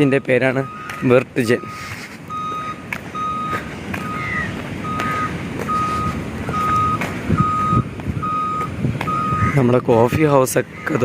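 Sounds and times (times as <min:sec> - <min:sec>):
reversing alarm beeping: 0:00.0 - 0:09.6
low engine rumble: 0:00.0 - 0:10.2.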